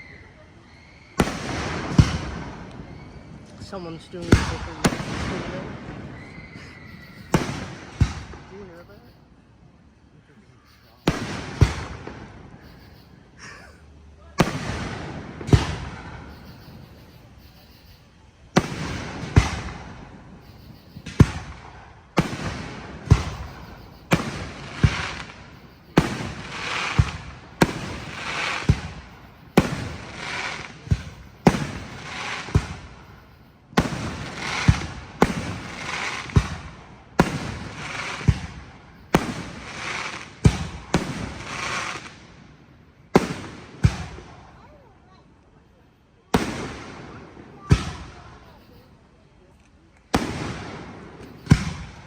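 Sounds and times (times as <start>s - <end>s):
firework bangs: 0.0s - 9.3s, 10.7s - 45.1s, 46.2s - 48.9s, 50.0s - 52.0s
firework crackling: 0.0s - 9.4s, 10.6s - 45.6s, 49.7s - 52.0s.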